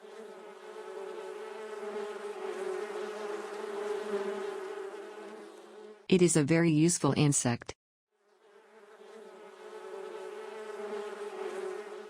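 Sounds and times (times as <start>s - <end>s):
honeybee buzzing: 0.0s - 6.1s, 8.2s - 12.0s.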